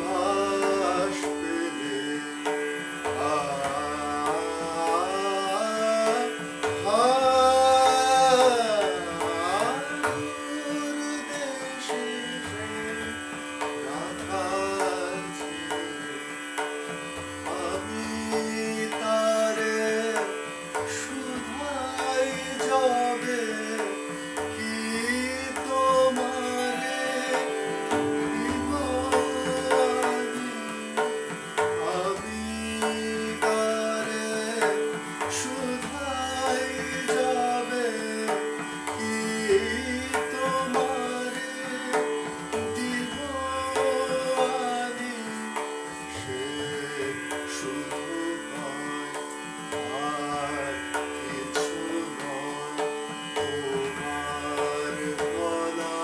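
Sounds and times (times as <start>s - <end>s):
man singing: 0.0s - 16.3s, 17.4s - 56.0s
tabla rhythm: 0.0s - 56.0s.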